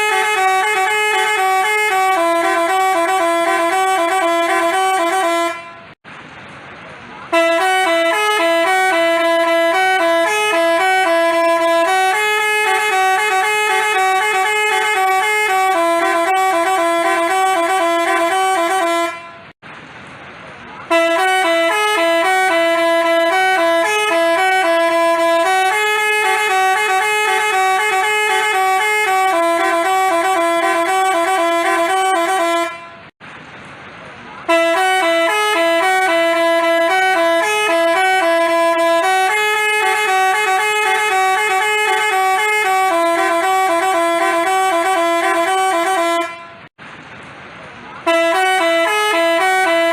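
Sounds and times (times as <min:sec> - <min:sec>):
multi-tone bus horn melody: 0:00.0 - 0:06.0, 0:07.2 - 0:19.6, 0:20.8 - 0:33.2, 0:34.4 - 0:46.8, 0:48.0 - 0:49.9.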